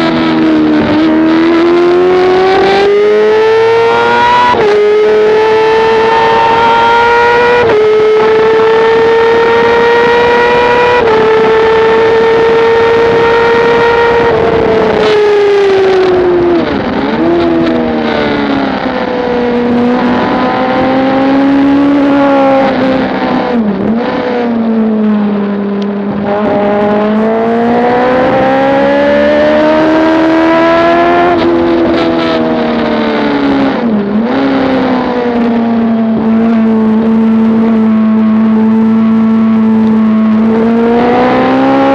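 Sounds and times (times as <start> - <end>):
motorcycle engine high revs: 0.0 - 25.1, 26.0 - 41.9
wind rush: 0.0 - 41.9.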